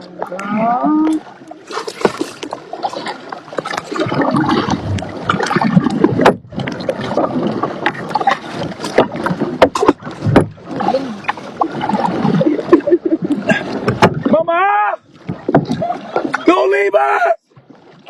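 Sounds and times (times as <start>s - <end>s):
paddle splashing in water: 0.0s - 18.0s
paddle knocking against hull: 1.1s - 16.6s.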